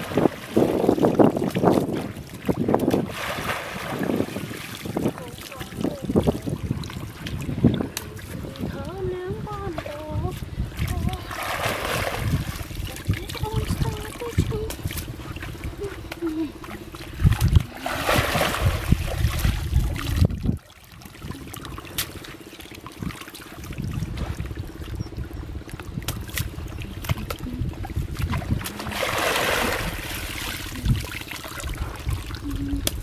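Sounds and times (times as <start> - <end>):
small splashes: 0.0 - 9.0, 9.6 - 33.0
water trickling and sloshing: 0.0 - 33.0
wind rumble on microphone: 0.0 - 33.0.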